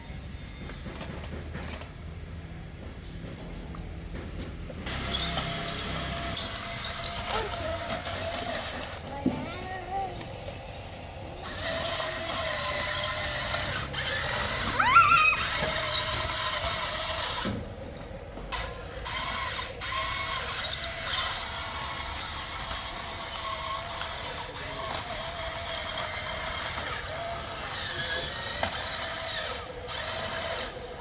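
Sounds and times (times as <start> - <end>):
electric motors whirring: 4.8 - 17.7, 18.4 - 31.0.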